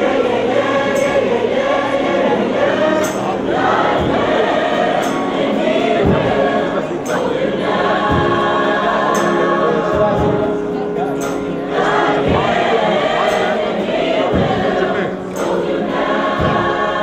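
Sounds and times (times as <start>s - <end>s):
choir singing held chords: 0.0s - 17.0s
regular beat: 0.0s - 17.0s.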